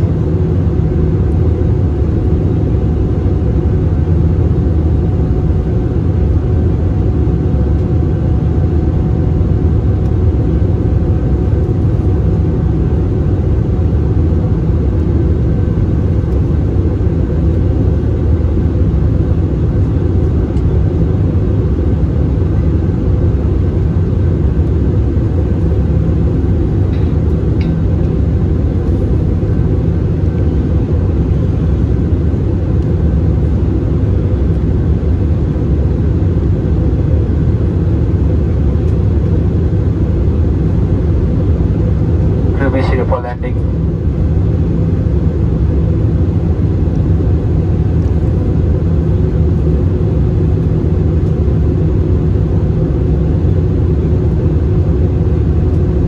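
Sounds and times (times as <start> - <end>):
airplane cabin engine roar: 0.0 - 56.0
faint steady whine: 0.0 - 56.0.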